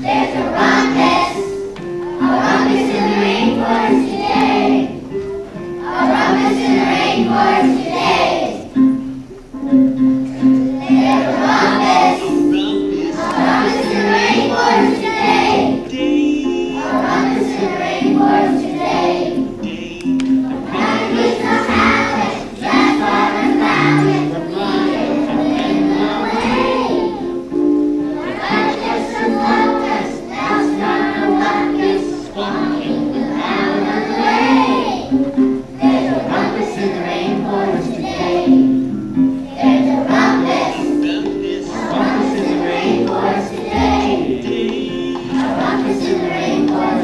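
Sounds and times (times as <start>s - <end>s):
children's choir singing: 0.0s - 47.0s
musical accompaniment: 0.0s - 47.0s.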